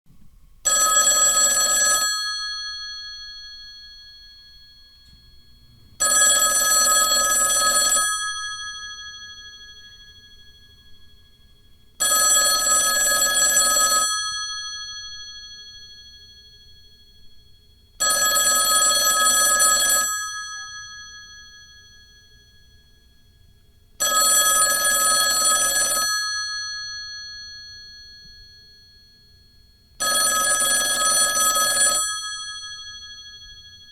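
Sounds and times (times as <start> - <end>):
telephone bell ringing: 0.6 - 17.2, 18.0 - 33.9.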